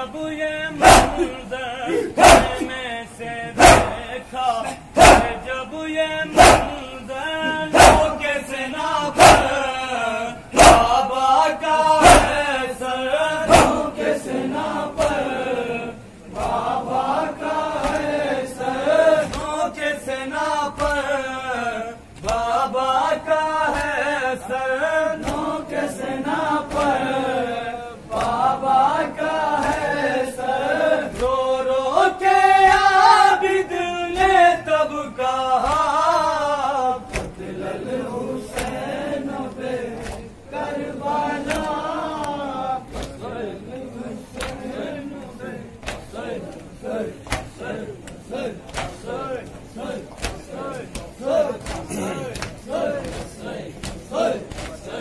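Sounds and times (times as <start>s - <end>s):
men chanting in unison: 0.0s - 55.0s.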